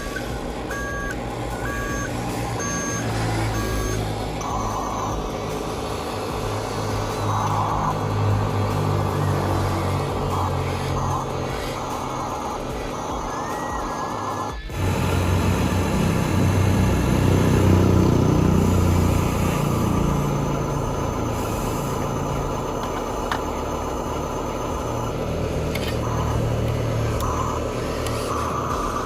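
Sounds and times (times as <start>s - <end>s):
truck engine revving and idling: 0.0s - 29.0s.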